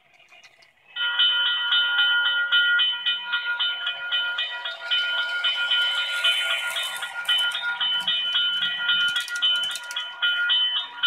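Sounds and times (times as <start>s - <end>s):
electronic crossing bell ringing: 0.9s - 11.0s.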